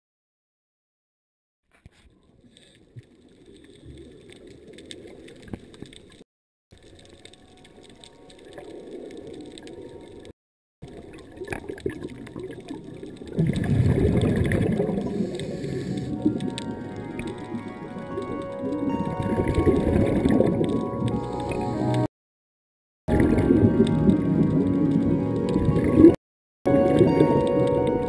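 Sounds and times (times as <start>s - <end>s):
muffled underwater water noise: 1.8s - 22.1s, 23.1s - 28.0s.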